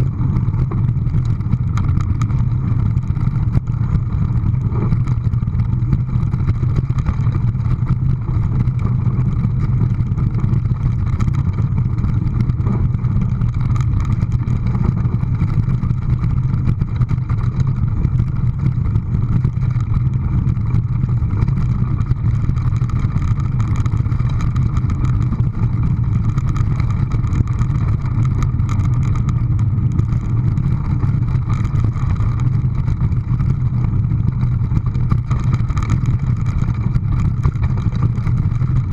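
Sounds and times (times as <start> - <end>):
steady low rumble: 0.0 - 38.9.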